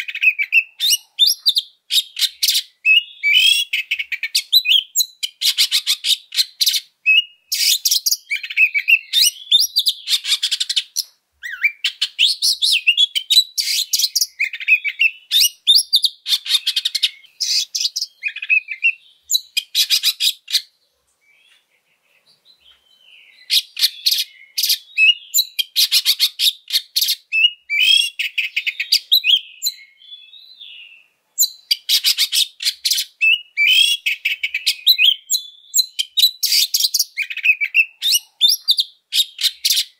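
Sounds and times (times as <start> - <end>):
bird singing rapid whistled song: 0.0 - 39.9.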